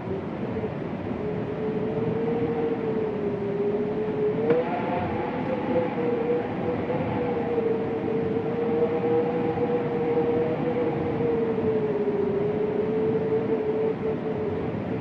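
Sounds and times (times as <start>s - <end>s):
wind moaning: 0.0s - 15.0s.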